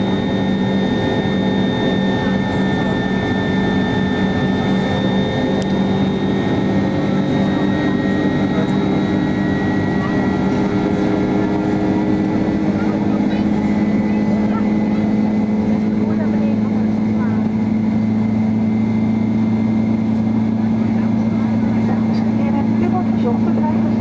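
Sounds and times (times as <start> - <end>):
airplane cabin drone: 0.0 - 24.0.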